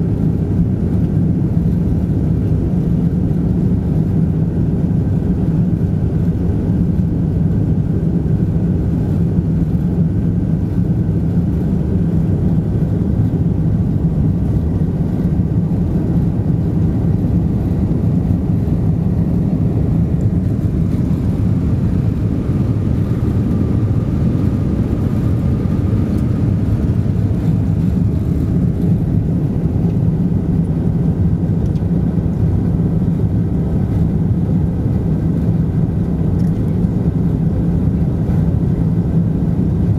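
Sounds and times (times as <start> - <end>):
jet engines roaring in cabin: 0.0 - 39.9.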